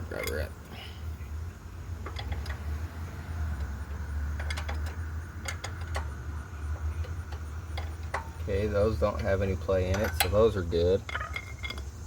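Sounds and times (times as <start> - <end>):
metal tool clicks on engine parts: 0.0 - 0.6, 2.0 - 2.8, 3.5 - 12.0.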